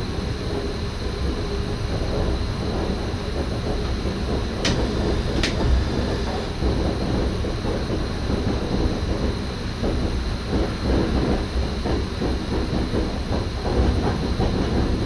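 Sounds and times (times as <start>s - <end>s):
train cab low rumble: 0.0s - 15.0s.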